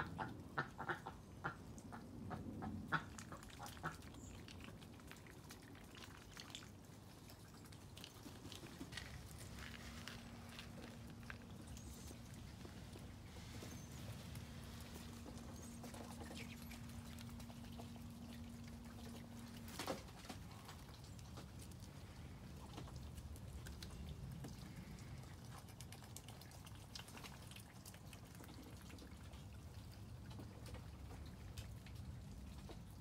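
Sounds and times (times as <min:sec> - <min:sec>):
faint steady hum: 0:00.0 - 0:33.0
rainwater dripping: 0:02.9 - 0:33.0.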